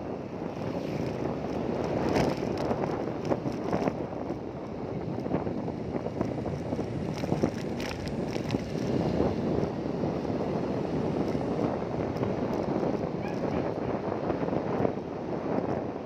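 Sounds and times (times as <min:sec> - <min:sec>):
rumble of travel: 0:00.0 - 0:16.0
wind buffeting microphone: 0:00.0 - 0:16.0.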